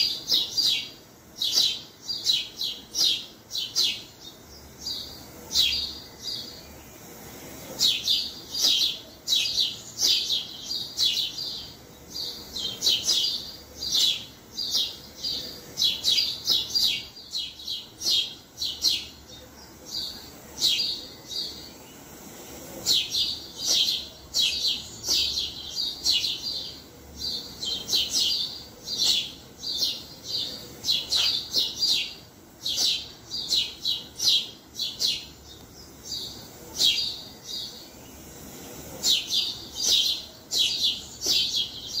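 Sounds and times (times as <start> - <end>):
sparrows chirping: 0.0 - 42.0.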